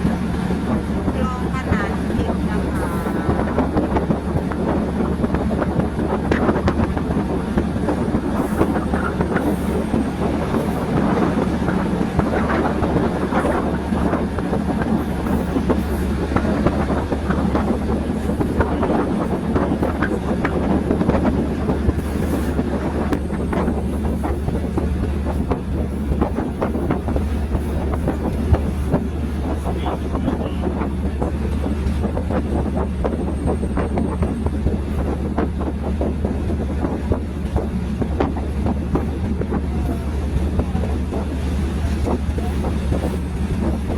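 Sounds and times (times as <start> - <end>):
train rumbling on track: 0.0 - 43.9
wheels clicking on rails: 0.0 - 43.9.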